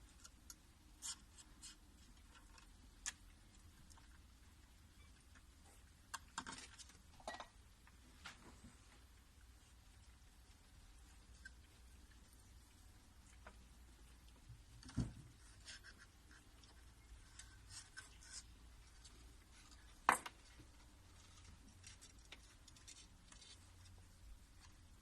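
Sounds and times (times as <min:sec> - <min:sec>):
cats rustling and scratching: 0:00.0 - 0:07.2, 0:07.9 - 0:25.0.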